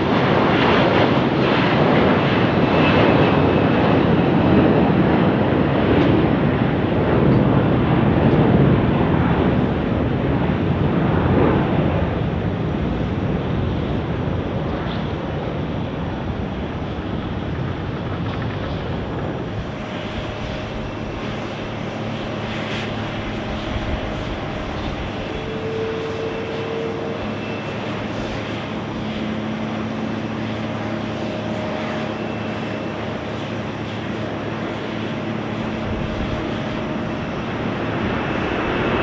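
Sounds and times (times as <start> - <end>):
jet engine hum with whining: 0.0 - 39.0
jet engines roaring: 0.0 - 39.0.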